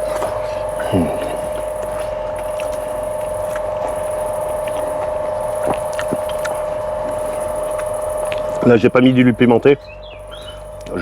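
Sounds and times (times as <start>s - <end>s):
insects trilling: 0.0s - 11.0s
steady hum: 0.0s - 11.0s.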